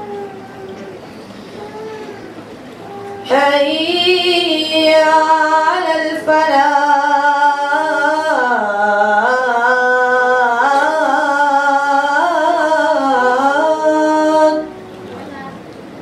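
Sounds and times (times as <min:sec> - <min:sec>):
boy chanting call to prayer: 0:01.6 - 0:15.6.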